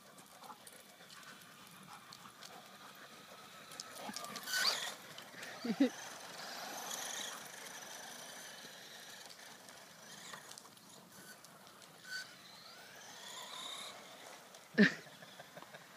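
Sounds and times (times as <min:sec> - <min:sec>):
electric toy car motor whine: 0:01.4 - 0:15.9.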